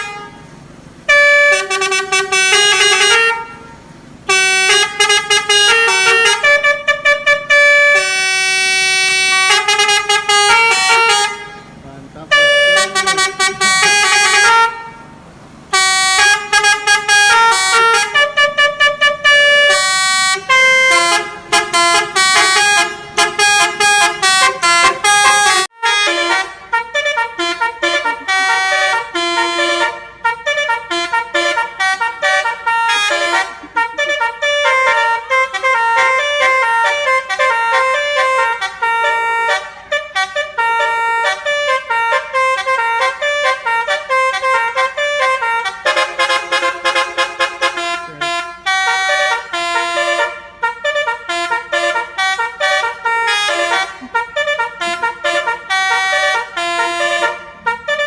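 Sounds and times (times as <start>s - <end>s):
bus horn playing a melody: 0.0s - 58.0s.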